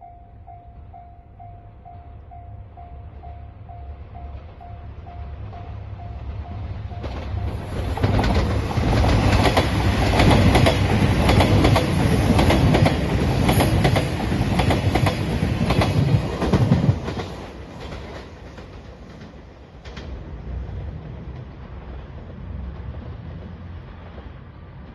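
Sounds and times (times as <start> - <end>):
wheels clacking over rail joints: 4.3 - 24.9.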